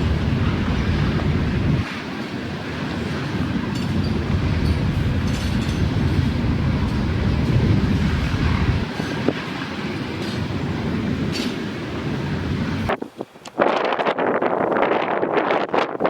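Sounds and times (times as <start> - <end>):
strong wind gusting on microphone: 0.0 - 16.0.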